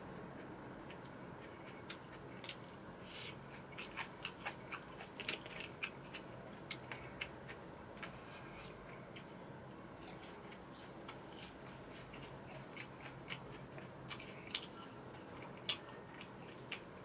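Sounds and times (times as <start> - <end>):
chewing with wet mouth clicks: 0.9 - 9.3, 10.0 - 16.9.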